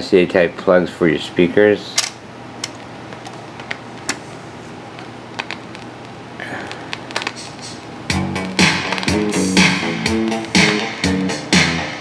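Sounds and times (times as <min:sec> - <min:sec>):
amplifier hum: 0:00.0 - 0:12.0.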